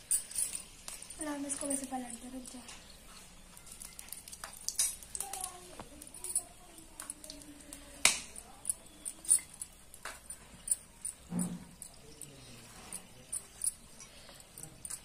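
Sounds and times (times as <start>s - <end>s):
hot oil popping and crackling: 0.0s - 12.4s.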